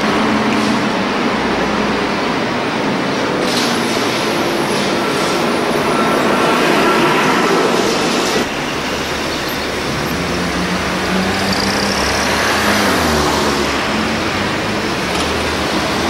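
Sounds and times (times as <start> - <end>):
trolleybus humming: 0.0 - 16.0
trolleybus passing with road noise: 0.0 - 16.0.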